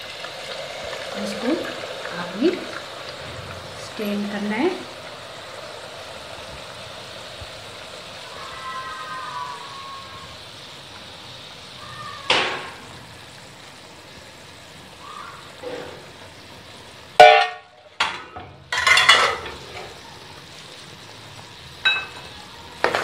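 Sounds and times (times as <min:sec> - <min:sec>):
syrup sizzling and bubbling: 0:00.0 - 0:23.0.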